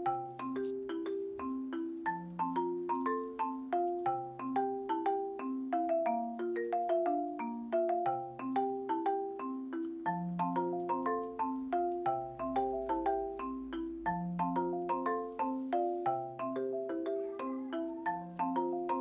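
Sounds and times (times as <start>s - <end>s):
marimba-like struck notes: 0.0s - 19.0s.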